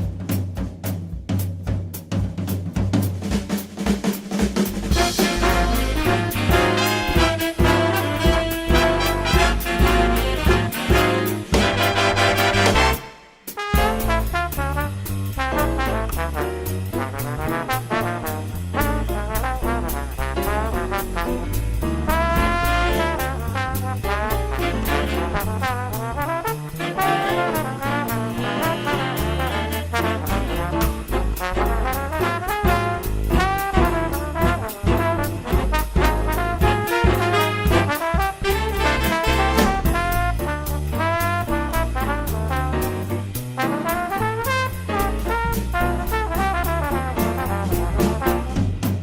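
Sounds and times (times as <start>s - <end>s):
steady drum beat: 0.0s - 49.0s
upbeat swing music with brass: 0.0s - 49.0s
stepping bass line: 4.8s - 49.0s.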